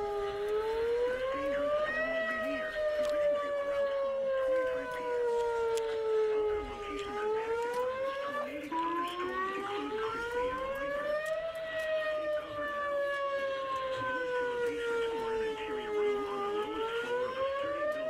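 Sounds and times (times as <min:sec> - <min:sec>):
electronic siren wailing: 0:00.0 - 0:18.0.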